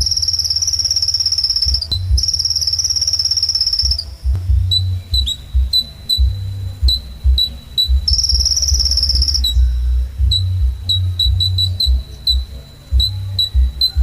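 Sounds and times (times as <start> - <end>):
buzzy high bird trill: 0.0 - 14.0
low irregular thumping: 0.0 - 14.0.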